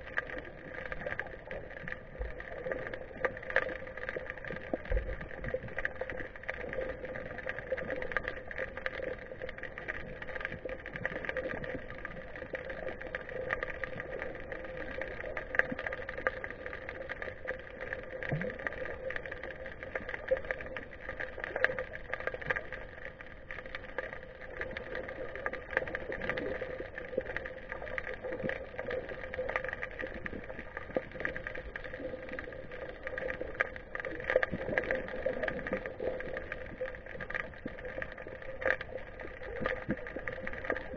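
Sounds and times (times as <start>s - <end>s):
faint clicks and crackle: 0.0s - 40.9s
muffled underwater hum: 0.0s - 40.9s.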